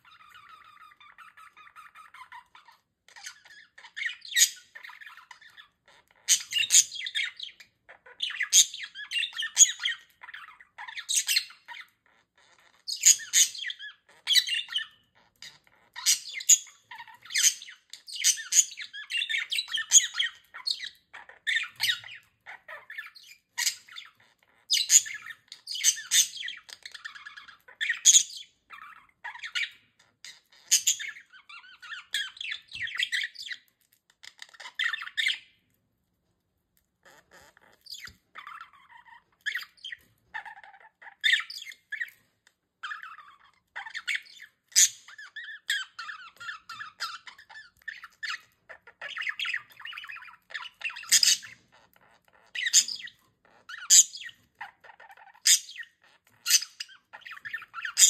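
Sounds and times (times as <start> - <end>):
budgerigars chattering and squawking: 0.0 - 35.6, 37.0 - 42.2, 42.8 - 58.0.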